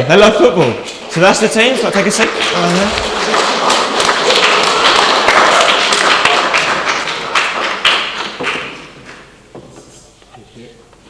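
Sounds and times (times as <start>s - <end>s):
audience clapping: 0.6s - 9.4s.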